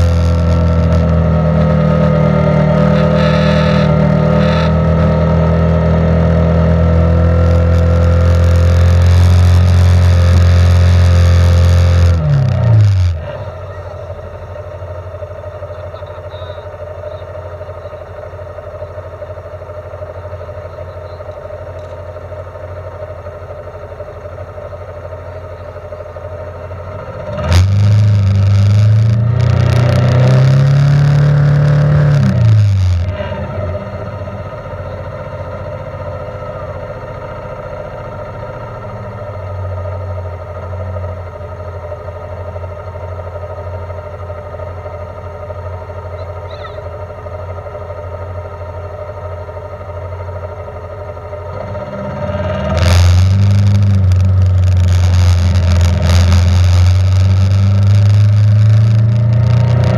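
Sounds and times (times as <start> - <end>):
vehicle engine running and revving: 0.0 - 59.9.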